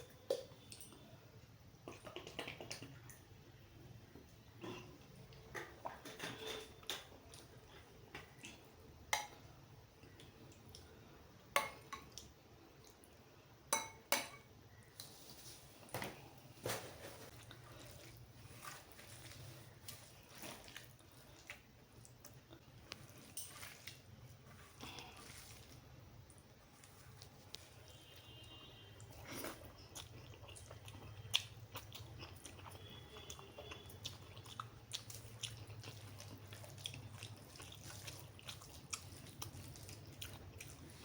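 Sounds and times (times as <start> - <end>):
soft chewing: 0.3 - 3.3, 4.0 - 11.2, 17.0 - 41.0.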